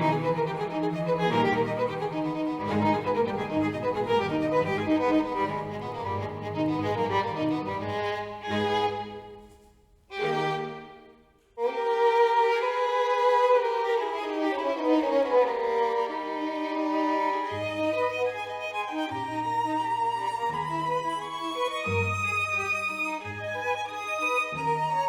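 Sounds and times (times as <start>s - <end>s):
slow violin and strings music: 0.0s - 25.0s.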